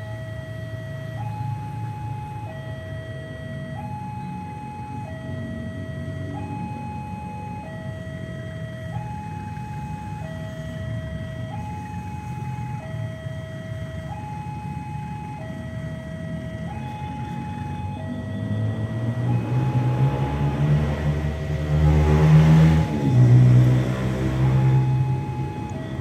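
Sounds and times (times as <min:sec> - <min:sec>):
electronic two-tone warning alarm: 0:00.0 - 0:26.0.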